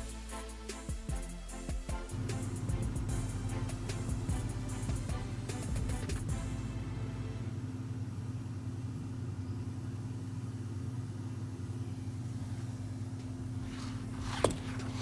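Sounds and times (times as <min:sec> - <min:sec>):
low mechanical hum: 0:02.1 - 0:15.0.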